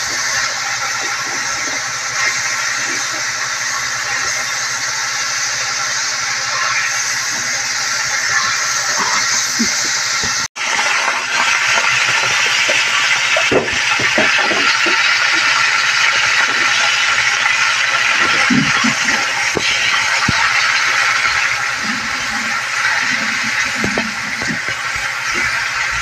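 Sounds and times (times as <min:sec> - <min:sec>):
meat sizzling in hot oil: 0:00.0 - 0:26.0.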